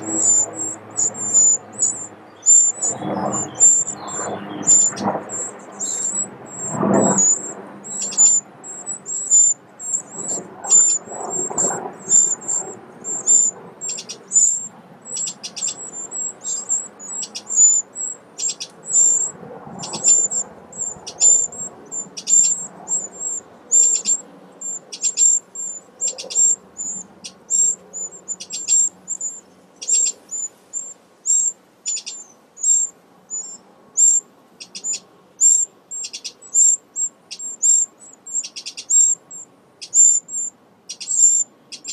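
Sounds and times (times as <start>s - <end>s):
nestlings cheeping: 0.0s - 41.9s.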